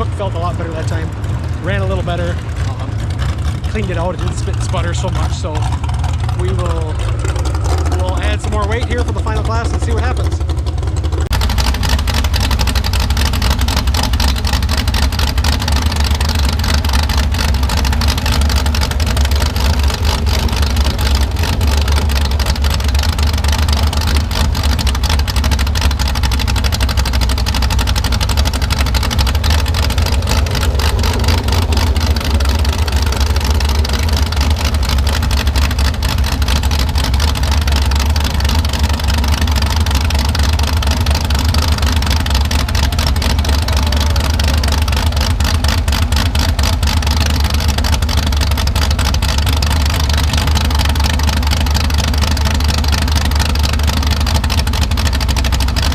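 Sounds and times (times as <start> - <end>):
tractor engine running loud: 0.0 - 55.9.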